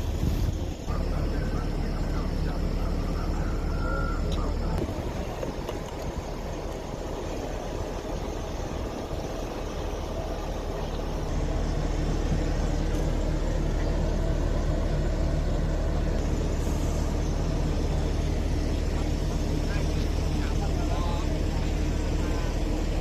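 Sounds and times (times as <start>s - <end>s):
heavy engine humming: 0.0s - 23.0s.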